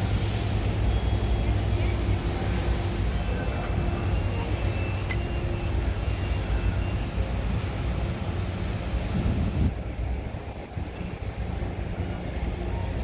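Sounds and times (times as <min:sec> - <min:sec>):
crane machinery drone: 0:00.0 - 0:13.0.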